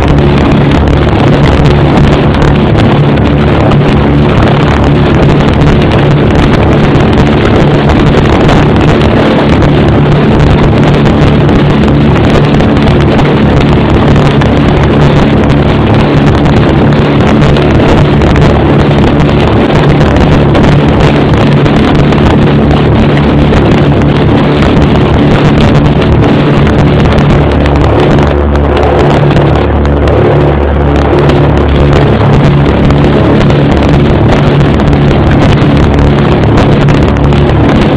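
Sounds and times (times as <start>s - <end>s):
airflow noise: 0.0s - 37.9s.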